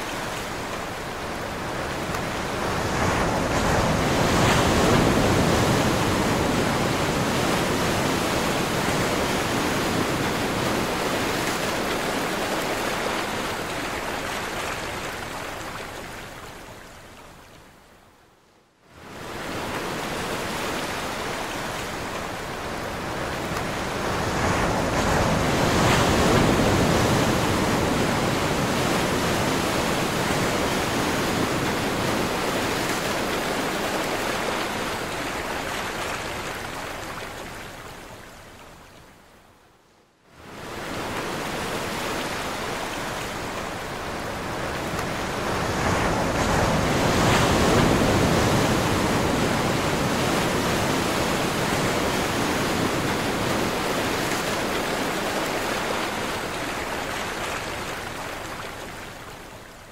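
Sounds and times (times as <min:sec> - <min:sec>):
ocean waves breaking: 0:00.0 - 0:17.0, 0:19.0 - 0:38.9, 0:40.4 - 0:59.9.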